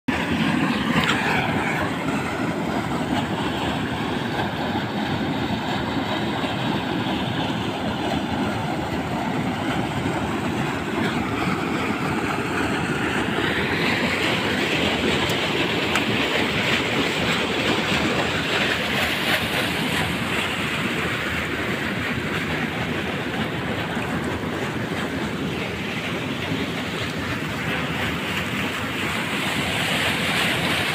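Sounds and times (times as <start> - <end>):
water stream flowing: 0.1 - 30.9.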